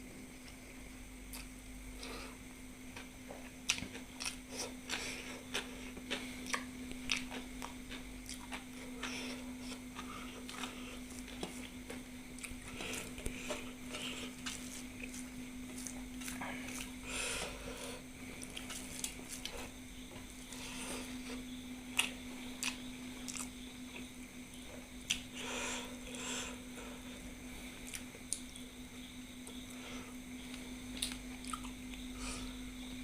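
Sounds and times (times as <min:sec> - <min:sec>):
steady low hum: 0:00.0 - 0:33.0
person chewing food: 0:01.3 - 0:27.2, 0:27.8 - 0:28.6, 0:29.5 - 0:32.6.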